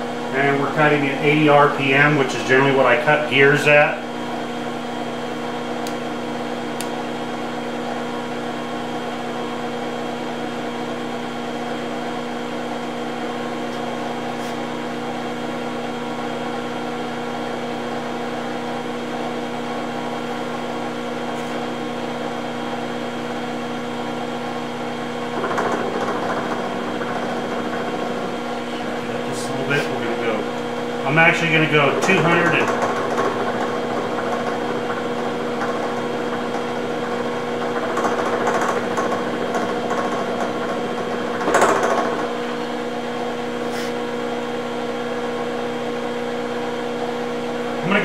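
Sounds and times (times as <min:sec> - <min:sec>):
milling machine motor hum: 0:00.0 - 0:48.0.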